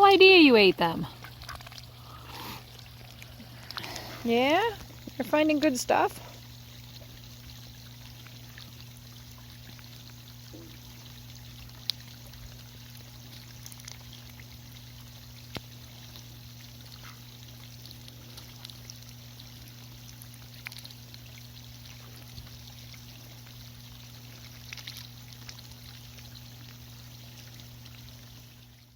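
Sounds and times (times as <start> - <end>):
steady low hum: 0.0 - 28.9
water trickling: 0.0 - 28.9.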